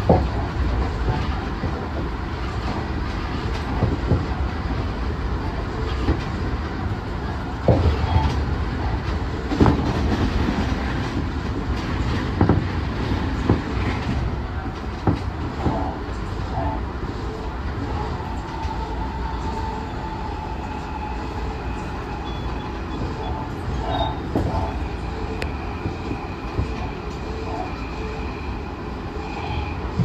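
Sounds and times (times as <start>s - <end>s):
electric train rumbling: 0.0s - 30.0s.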